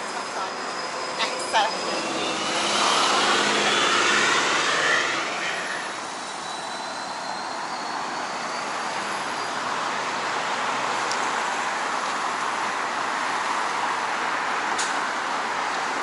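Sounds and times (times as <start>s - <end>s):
passing vehicles rushing: 0.0s - 16.0s.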